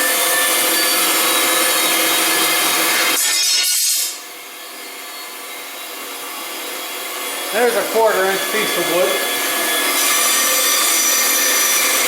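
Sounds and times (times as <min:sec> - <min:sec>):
bandsaw cutting wood: 0:00.0 - 0:12.0
bandsaw running without load: 0:00.0 - 0:12.0.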